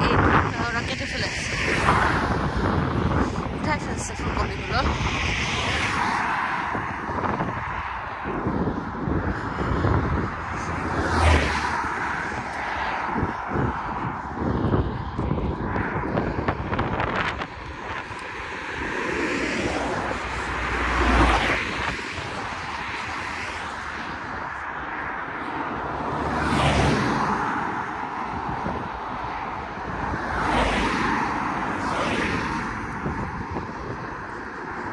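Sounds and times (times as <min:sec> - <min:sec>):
cars passing with tyre noise: 0:00.0 - 0:34.9
wind rumbling on microphone: 0:00.0 - 0:34.9.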